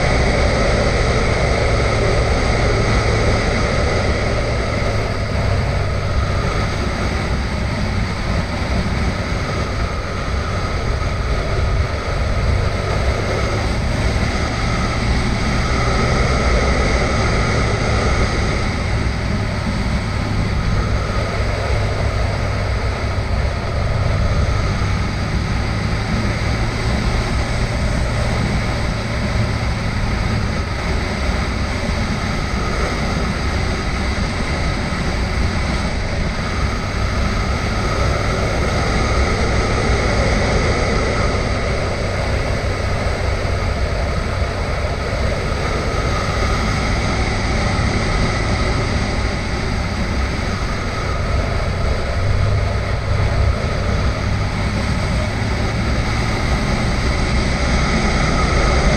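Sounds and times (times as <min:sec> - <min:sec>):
motorcycle engine running: 0:00.0 - 0:58.9
wind rush on microphone: 0:00.0 - 0:58.9.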